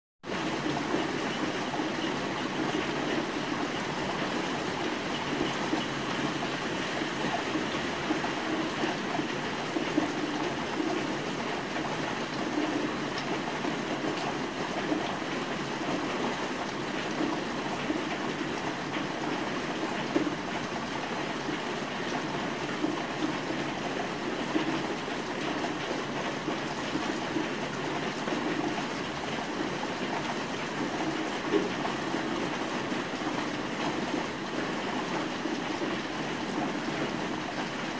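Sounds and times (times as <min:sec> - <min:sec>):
sharp rain taps: 0:00.2 - 0:37.9
steady rain falling: 0:00.2 - 0:37.9.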